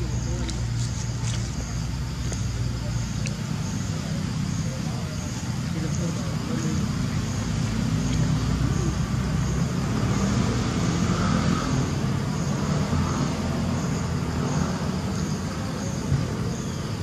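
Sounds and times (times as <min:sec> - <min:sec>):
insects chirping faintly: 0:00.0 - 0:17.0.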